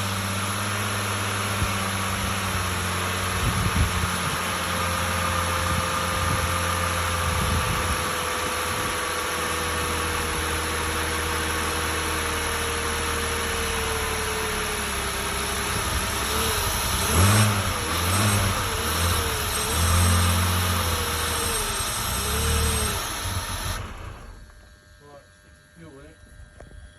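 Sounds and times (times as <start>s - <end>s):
engine knocking: 0.0s - 24.5s
car engine idling and revving: 0.0s - 24.6s.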